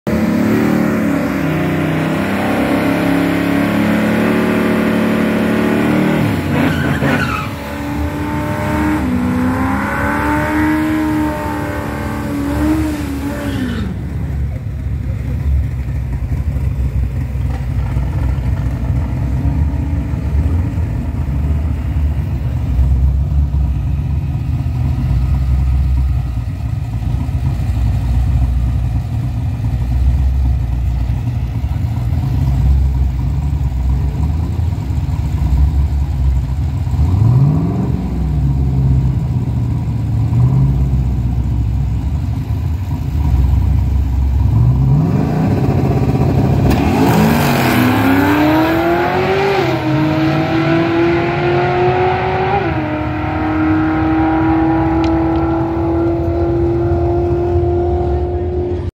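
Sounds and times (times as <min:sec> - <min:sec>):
car engine at high revs: 0:00.0 - 0:58.9.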